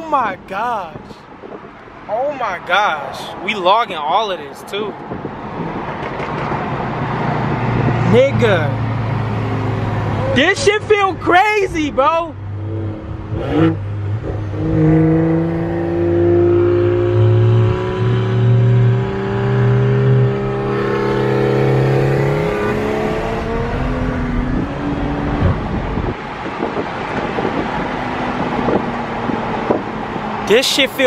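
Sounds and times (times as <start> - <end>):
car engine accelerating: 5.4 - 30.8.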